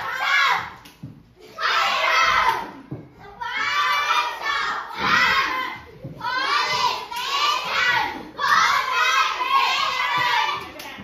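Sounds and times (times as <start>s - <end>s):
children shouting in chorus: 0.0s - 0.8s, 1.5s - 10.7s.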